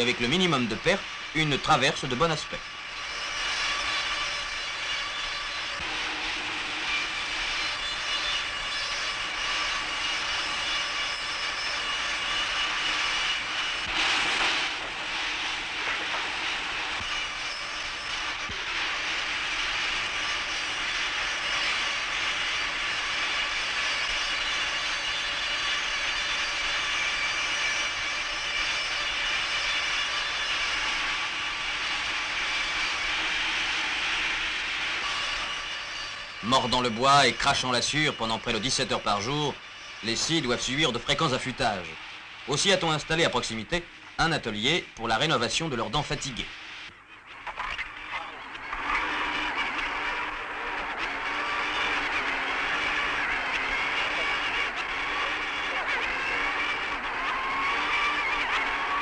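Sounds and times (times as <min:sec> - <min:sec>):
circular saw whining: 0:00.0 - 0:59.0.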